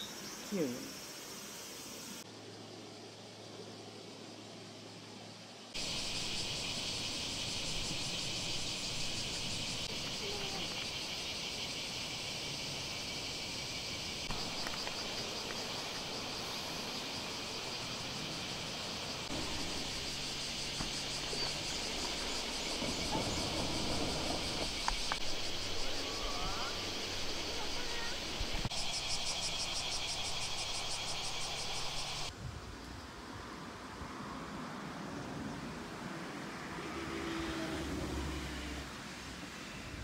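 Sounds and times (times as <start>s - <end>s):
shrill insect chorus: 0.0s - 40.0s.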